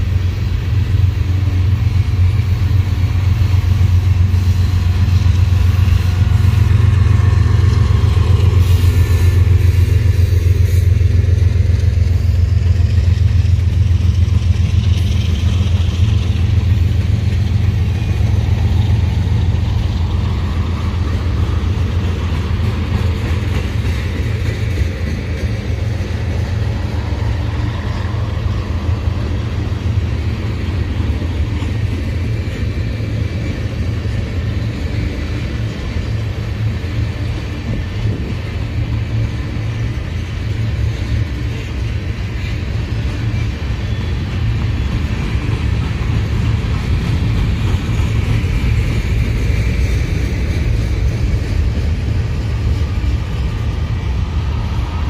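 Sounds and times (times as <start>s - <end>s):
diesel locomotive: 0.0s - 55.0s
freight train rolling past: 0.0s - 55.0s.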